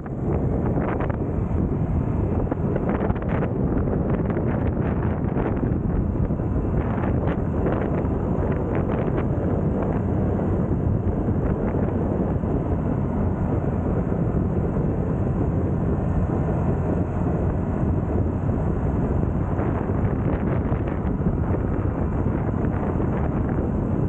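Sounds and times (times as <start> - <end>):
scooter engine rumble: 0.0 - 24.0
tyres on road: 0.0 - 24.0
wind buffeting microphone: 0.0 - 24.0.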